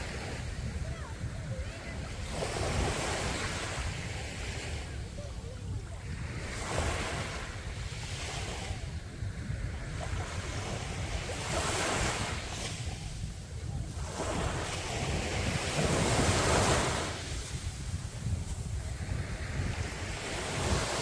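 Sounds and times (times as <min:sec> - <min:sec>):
sea waves breaking on beach: 0:00.0 - 0:21.0
wind rumble on microphone: 0:00.0 - 0:21.0.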